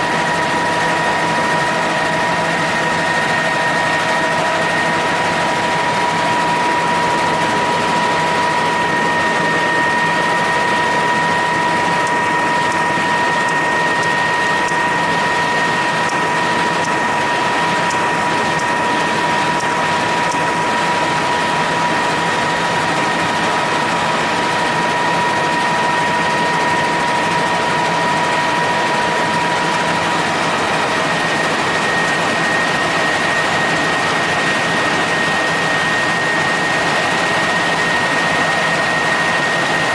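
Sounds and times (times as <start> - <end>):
helicopter engine and rotor noise: 0.0 - 39.9
high turbine whine: 0.0 - 39.9.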